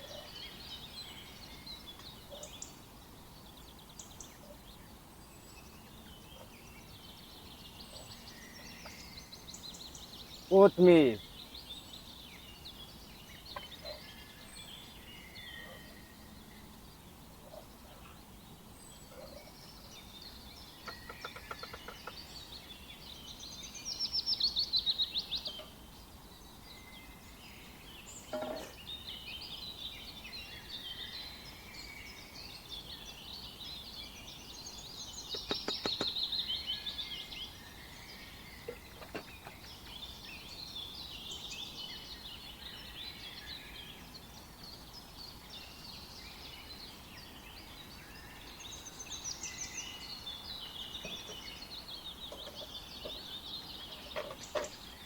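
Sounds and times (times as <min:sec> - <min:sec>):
birds chirping and warbling: 0:00.0 - 0:55.0.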